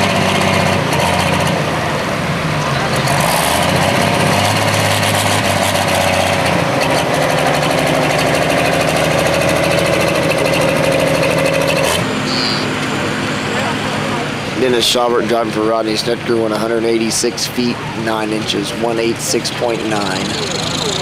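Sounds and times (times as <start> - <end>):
diesel engine at full throttle: 0.0 - 21.0
high engine whine: 0.0 - 21.0.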